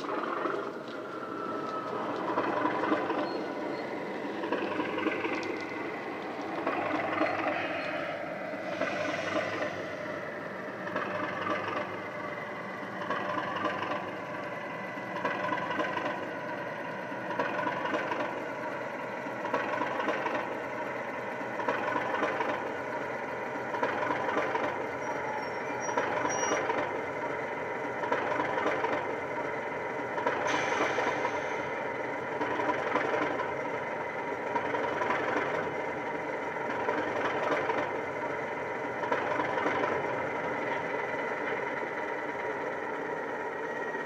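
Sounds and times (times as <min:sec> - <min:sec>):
diesel locomotive engine sound: 0:00.0 - 0:44.0.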